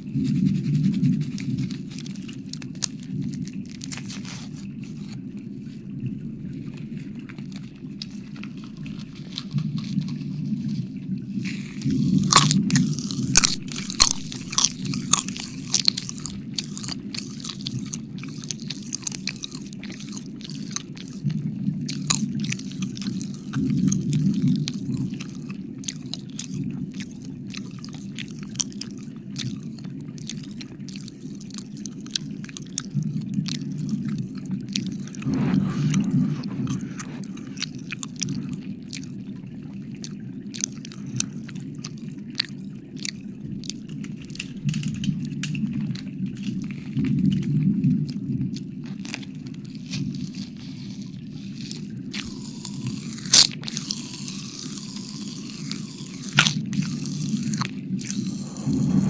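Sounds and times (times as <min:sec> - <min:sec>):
wet mouth clicks and smacks: 0:00.0 - 0:05.2, 0:06.7 - 0:39.3, 0:39.9 - 0:47.5, 0:48.6 - 0:59.0
steady low hum: 0:00.0 - 0:46.4, 0:47.0 - 0:59.0.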